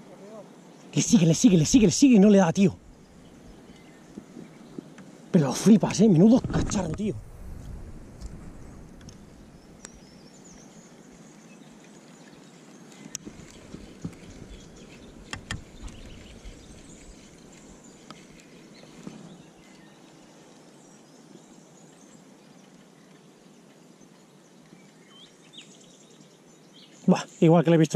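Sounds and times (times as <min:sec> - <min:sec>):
distant birds chirping: 0:00.0 - 0:27.9.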